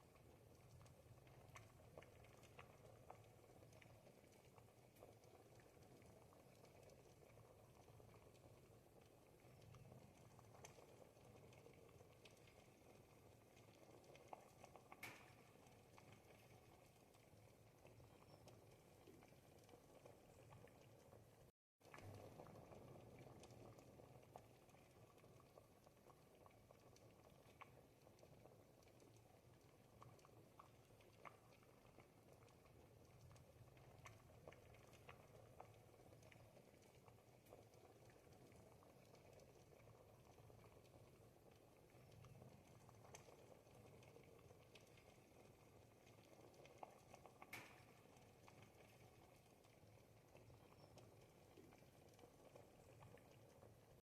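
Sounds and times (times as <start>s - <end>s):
soup bubbling in a pot: 0.0s - 54.0s.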